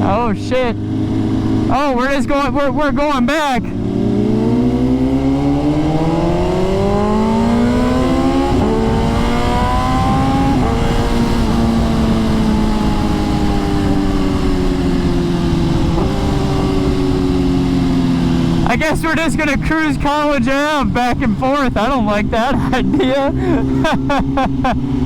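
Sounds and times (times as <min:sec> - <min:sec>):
motorcycle engine accelerating: 0:00.0 - 0:25.0
wind rushing: 0:00.7 - 0:24.1.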